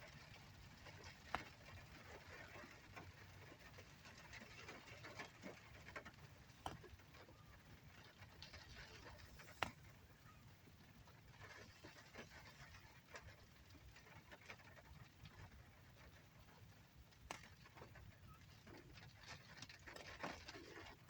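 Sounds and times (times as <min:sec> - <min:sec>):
faint rain hiss: 0:00.0 - 0:21.0.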